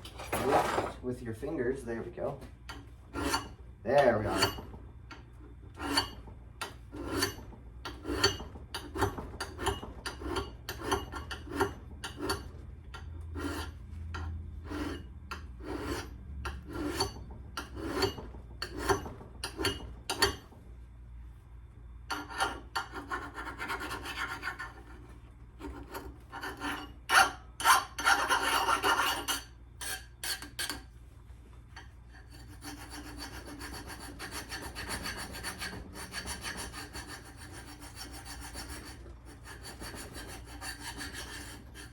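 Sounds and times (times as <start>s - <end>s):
file rasping on steel: 2.7s - 20.4s, 22.1s - 25.0s, 25.6s - 30.9s, 32.1s - 41.9s.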